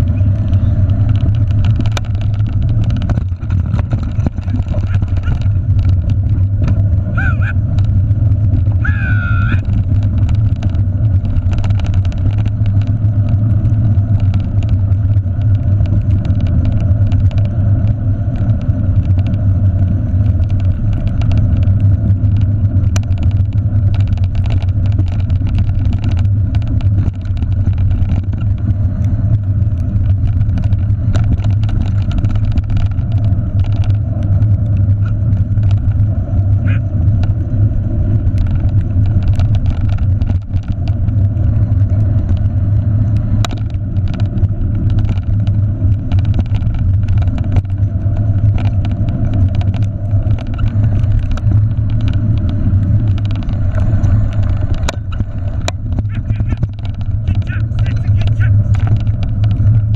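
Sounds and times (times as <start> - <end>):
wind and rolling rumble: 0.0 - 59.9.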